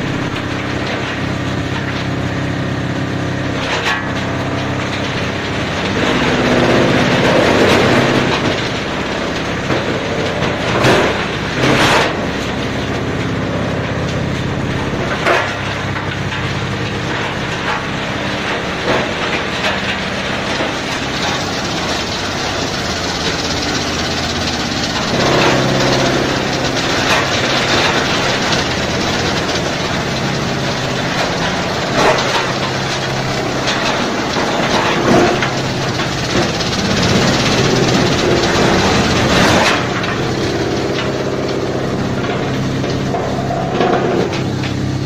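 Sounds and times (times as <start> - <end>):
stump grinder motor humming: 0.0 - 45.0
wood crunching and cracking: 0.0 - 45.0.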